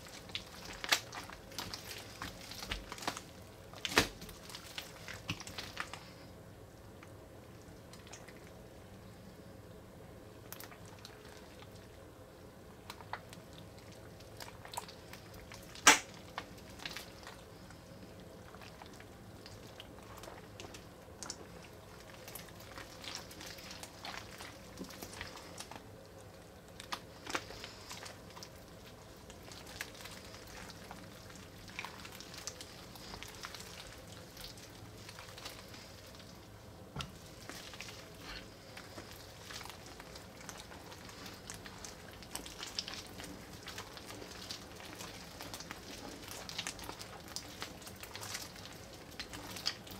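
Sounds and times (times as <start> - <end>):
slime squelching and popping: 0.0 - 6.1, 12.8 - 17.7, 18.4 - 49.9.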